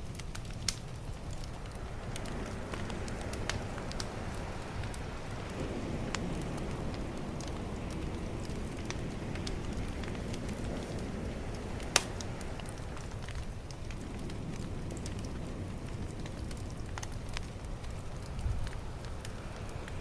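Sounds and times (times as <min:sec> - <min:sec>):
bonfire crackling and popping: 0:00.0 - 0:20.0
calm ocean waves: 0:00.0 - 0:20.0.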